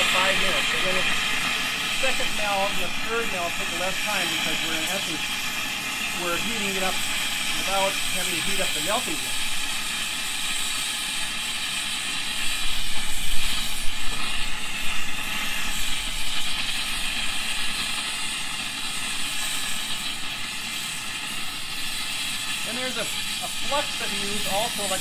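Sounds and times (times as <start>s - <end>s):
torch flame hissing: 0.0s - 25.0s.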